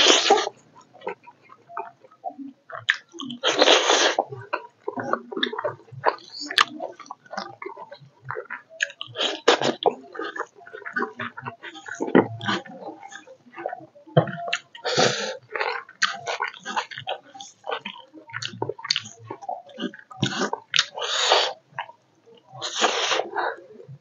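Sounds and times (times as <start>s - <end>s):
wet chewing and lip-smacking: 0.0s - 24.0s
breathy slurps: 2.8s - 22.0s, 22.6s - 23.7s.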